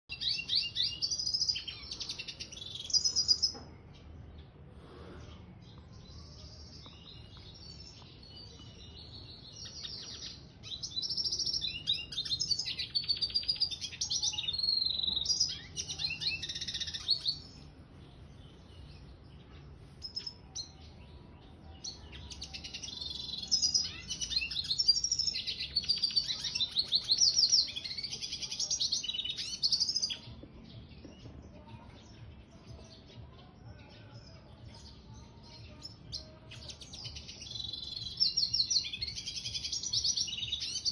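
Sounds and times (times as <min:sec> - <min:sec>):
bird chirps: 0:00.0 - 0:40.9
finch twittering song: 0:00.0 - 0:40.9.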